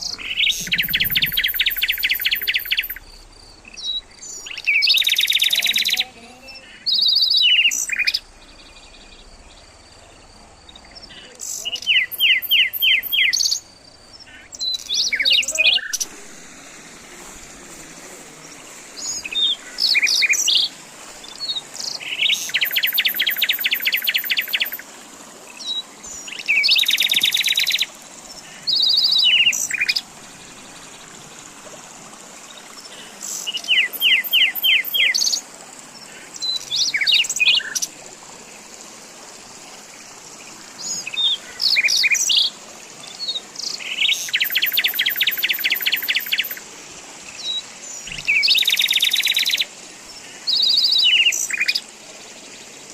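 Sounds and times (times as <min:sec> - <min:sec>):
faint hiss: 0:00.0 - 0:52.9
songbirds singing: 0:00.0 - 0:52.9.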